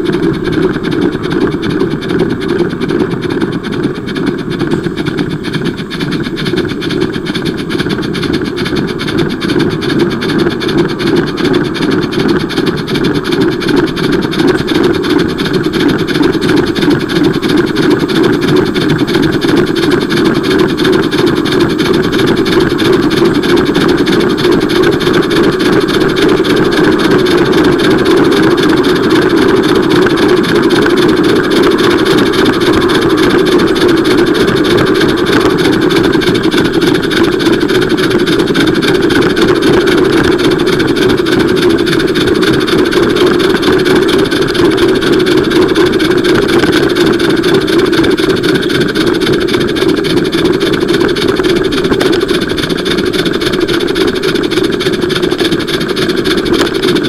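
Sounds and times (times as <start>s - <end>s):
steam locomotive running: 0.0s - 57.0s.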